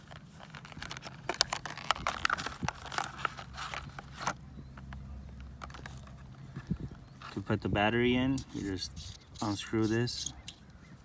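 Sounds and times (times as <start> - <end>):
microphone handling clicks and rustles: 0.0 - 11.0.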